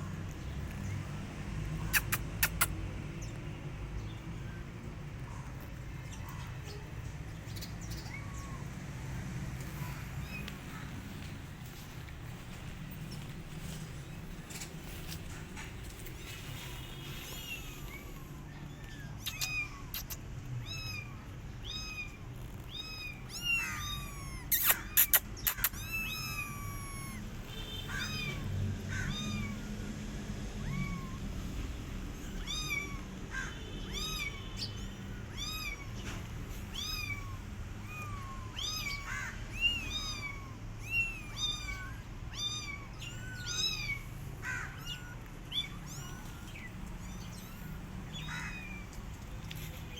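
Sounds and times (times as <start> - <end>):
kittens meowing: 4.4 - 12.0, 17.2 - 49.8.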